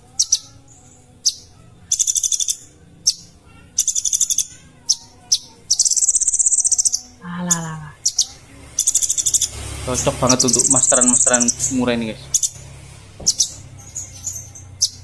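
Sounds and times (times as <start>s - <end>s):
bird sharp chirps: 0.1s - 12.7s, 13.3s - 15.0s
bird high rapid trilling: 1.2s - 15.0s.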